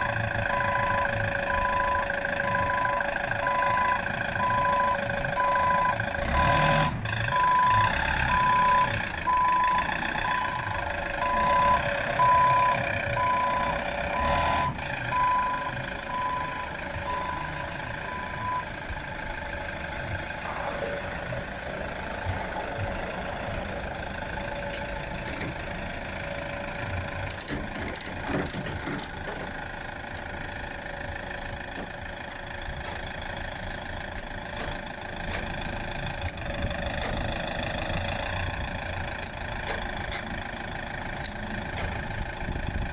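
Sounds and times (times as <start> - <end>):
truck engine idling: 0.0 - 42.9
truck reversing alarm beeping: 0.0 - 42.9.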